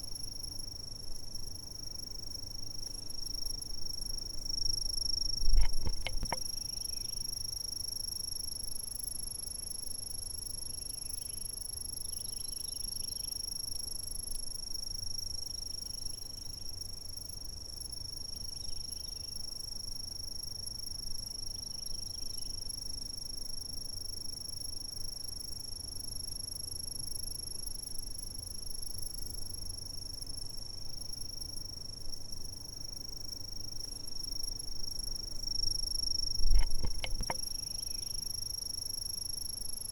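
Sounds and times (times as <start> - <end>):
high insect trill: 0.0 - 39.9
lower insect chirps: 0.0 - 39.9.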